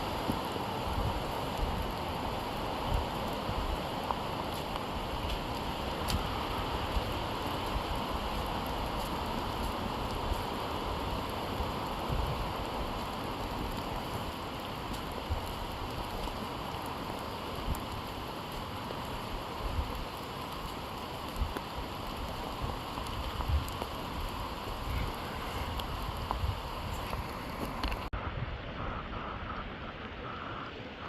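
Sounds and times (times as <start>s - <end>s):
rain falling in forest: 0.0s - 31.0s
wind rumble on microphone: 0.0s - 31.0s.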